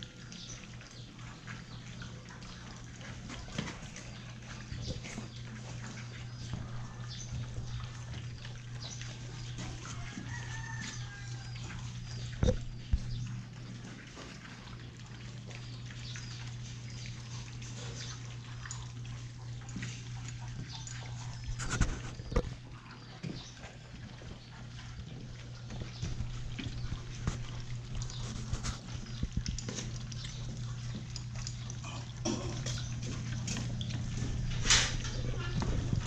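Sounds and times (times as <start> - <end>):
puppies chewing and lapping: 0.0 - 36.0
steady low hum: 0.0 - 36.0.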